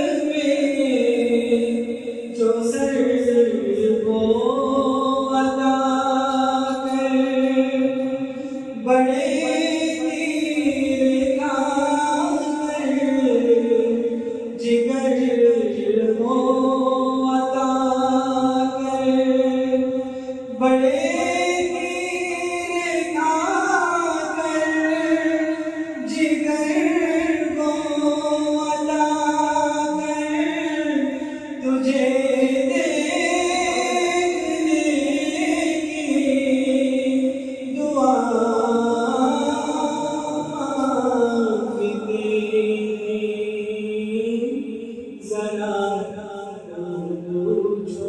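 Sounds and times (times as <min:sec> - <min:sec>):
man singing devotional song: 0:00.0 - 0:48.0.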